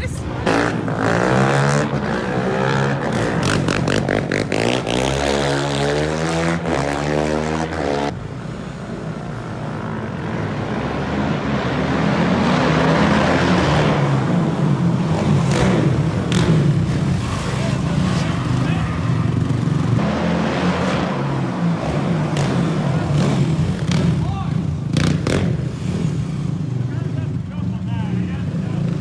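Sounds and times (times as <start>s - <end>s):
quad engines revving: 0.0s - 8.2s, 9.3s - 29.0s.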